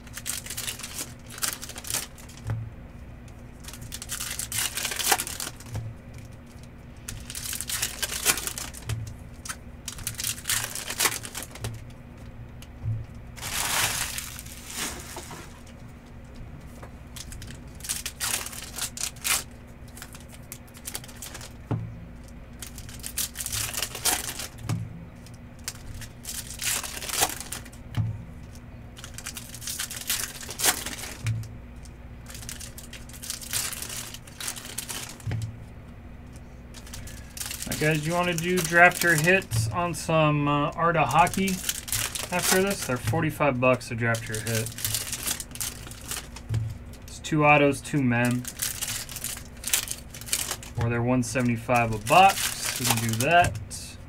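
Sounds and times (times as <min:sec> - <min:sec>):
foil wrappers tearing and crinkling: 0:00.0 - 0:02.5, 0:03.5 - 0:11.9, 0:13.4 - 0:15.8, 0:17.2 - 0:21.6, 0:22.2 - 0:24.7, 0:25.6 - 0:27.9, 0:28.5 - 0:31.3, 0:32.2 - 0:35.5, 0:36.7 - 0:50.8, 0:51.4 - 0:53.8.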